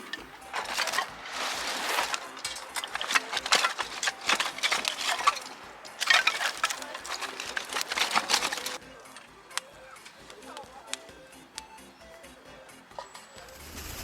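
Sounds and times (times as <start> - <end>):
cooking gear clicking and clinking: 0.0 - 11.8.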